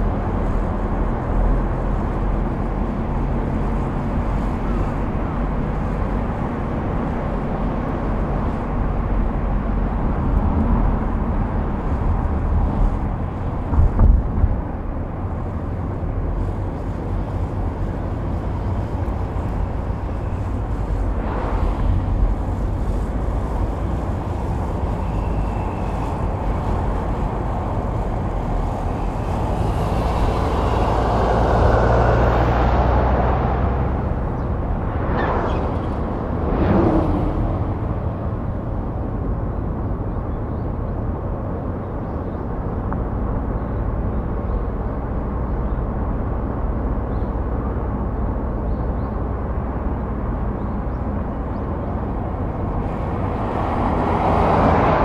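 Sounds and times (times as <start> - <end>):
car driving on road: 0.0 - 55.0
passing traffic: 0.0 - 55.0.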